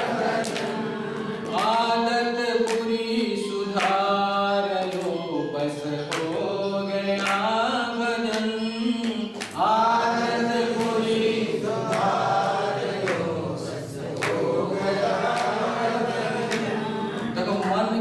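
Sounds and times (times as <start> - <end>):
man singing devotional song: 1.3 - 18.0.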